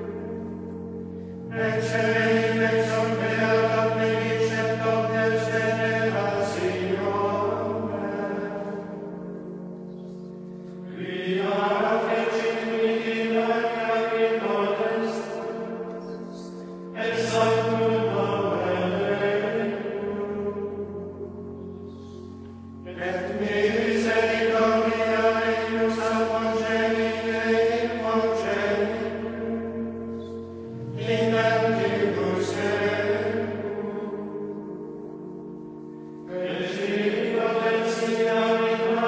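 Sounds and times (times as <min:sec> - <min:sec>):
choir singing chant-like phrases: 0:01.4 - 0:09.3, 0:10.8 - 0:21.2, 0:22.9 - 0:34.6, 0:36.3 - 0:39.0.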